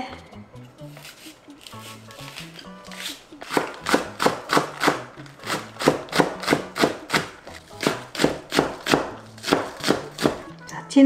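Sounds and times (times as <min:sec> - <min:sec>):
knife slicing on wooden board: 0:00.8 - 0:10.4.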